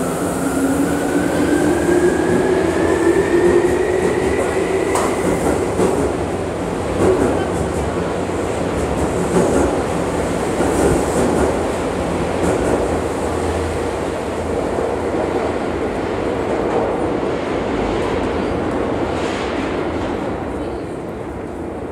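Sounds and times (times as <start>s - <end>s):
train rumble in tunnel: 0.0s - 21.9s.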